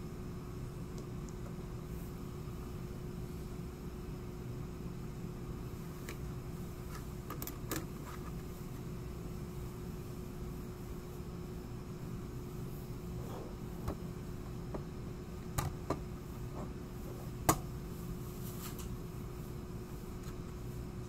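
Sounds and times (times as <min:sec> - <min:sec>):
droning room hum: 0:00.0 - 0:21.0.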